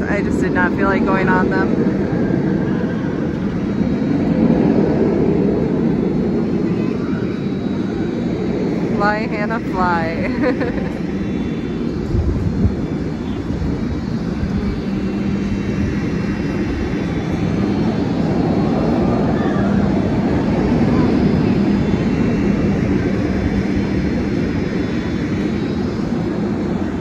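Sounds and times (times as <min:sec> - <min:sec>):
faint voices: 0:00.0 - 0:27.0
ride mechanical drone: 0:00.0 - 0:27.0.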